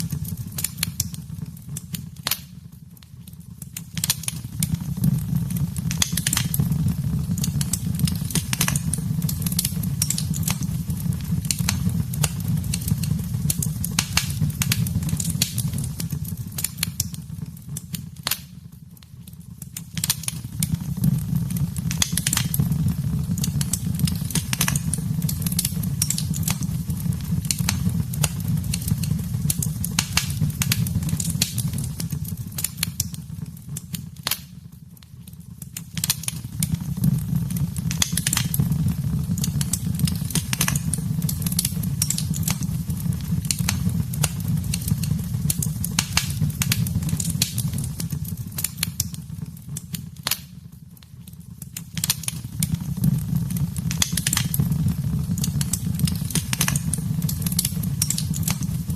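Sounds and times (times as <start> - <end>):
low steady fire roar: 0.0 - 58.9
wood fire crackling and popping: 0.0 - 58.9.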